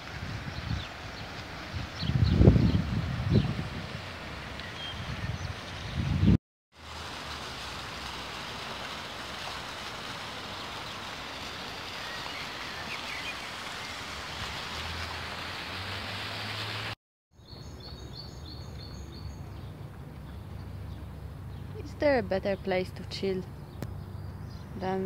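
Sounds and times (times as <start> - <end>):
steady outdoor noise: 0.0 - 25.0.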